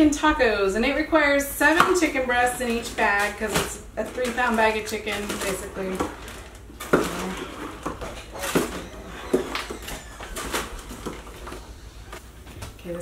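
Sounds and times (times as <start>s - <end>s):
plastic bags crinkling: 1.6s - 12.2s.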